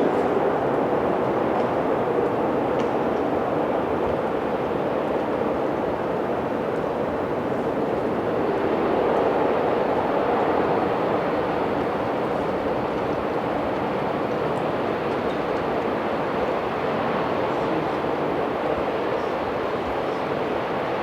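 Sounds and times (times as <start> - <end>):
jet airliner engines: 0.0 - 21.0.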